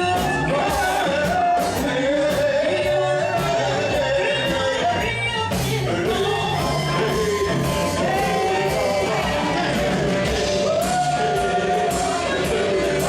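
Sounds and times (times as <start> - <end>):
live band music: 0.0 - 13.0
person singing: 0.0 - 13.0.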